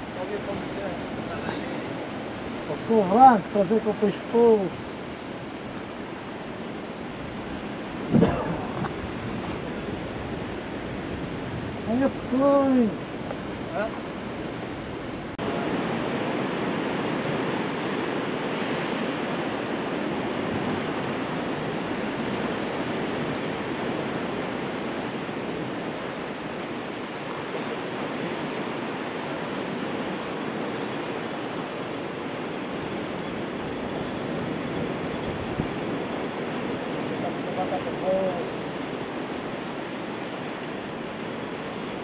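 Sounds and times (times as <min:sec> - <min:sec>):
surf washing against rocks: 0:00.0 - 0:42.0.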